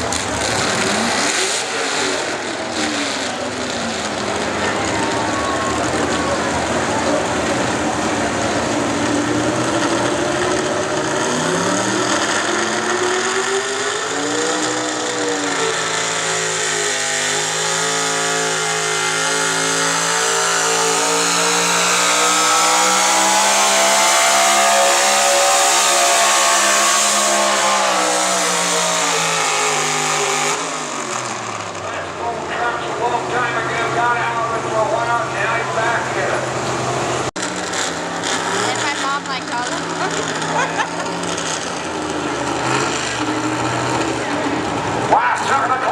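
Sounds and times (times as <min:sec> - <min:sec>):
truck engine at high revs: 0:00.0 - 0:45.9.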